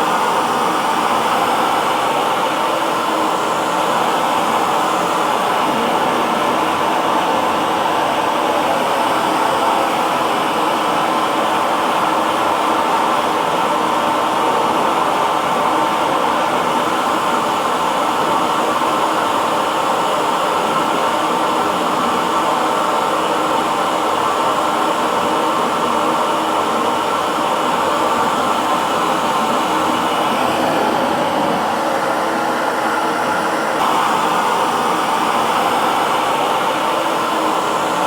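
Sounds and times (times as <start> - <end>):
hair dryer blowing: 0.0 - 38.0.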